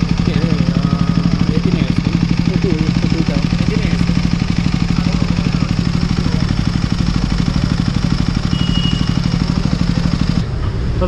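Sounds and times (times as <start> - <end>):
engine ticking: 0.0 - 11.0
motorcycle engine idling: 0.0 - 11.0.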